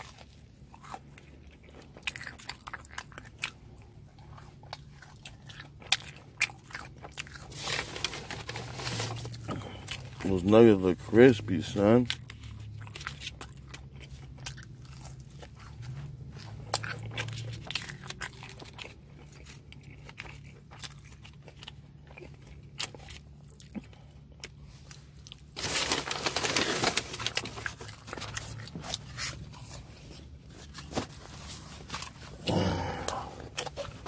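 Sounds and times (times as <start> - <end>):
crunchy chewing: 0.0 - 34.0
steady low hum: 0.0 - 34.0.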